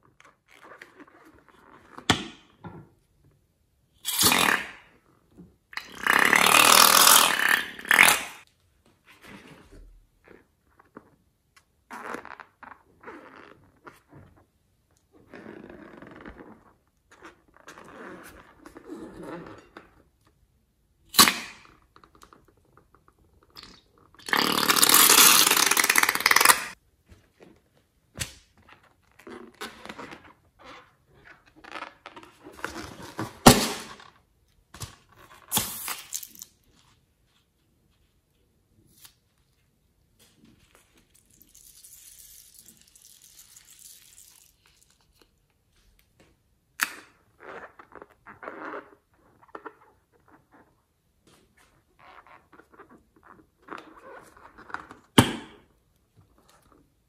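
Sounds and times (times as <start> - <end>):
slime balloons squeaking and squelching: 0.0 - 2.6, 3.9 - 20.4, 21.0 - 26.8, 28.4 - 39.3, 40.2 - 57.0.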